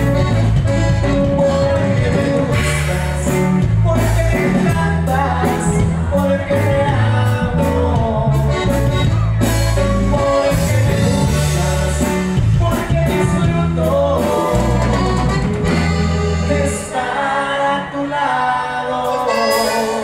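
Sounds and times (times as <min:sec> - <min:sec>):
drums: 0:00.0 - 0:17.6
accordion melody: 0:00.0 - 0:20.0
acoustic guitar: 0:00.0 - 0:20.0
bass line: 0:00.0 - 0:20.0.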